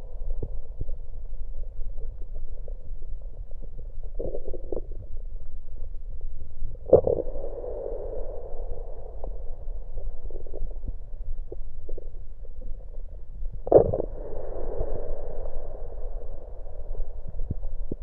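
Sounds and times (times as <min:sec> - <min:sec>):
stomach gurgling: 0:00.1 - 0:18.0.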